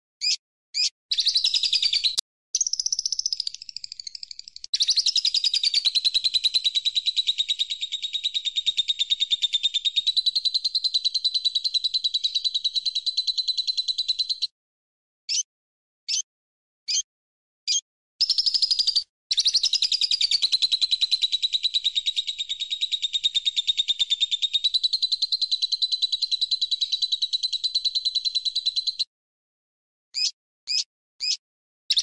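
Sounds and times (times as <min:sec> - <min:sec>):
songbird chirps and trills: 0:00.2 - 0:14.5, 0:17.7 - 0:29.1.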